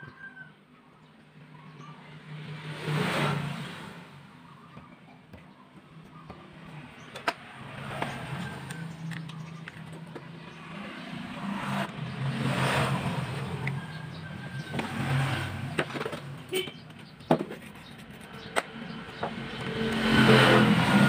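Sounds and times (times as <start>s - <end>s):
passing traffic: 1.1s - 21.0s.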